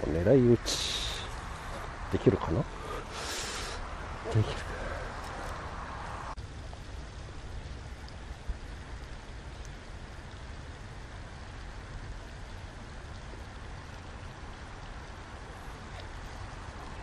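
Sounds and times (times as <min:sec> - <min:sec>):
outdoor rumble: 0:00.0 - 0:17.0
wind: 0:00.0 - 0:17.0.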